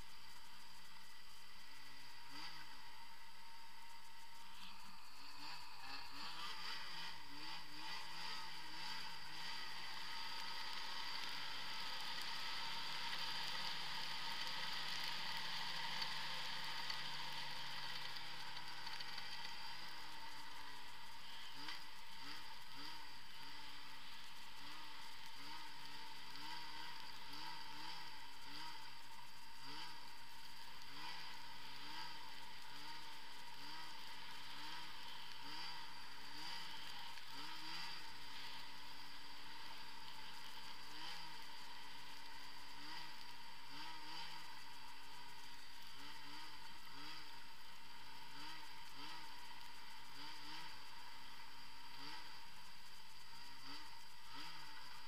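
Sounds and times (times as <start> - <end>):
snowmobile engine revving: 1.6 - 55.0.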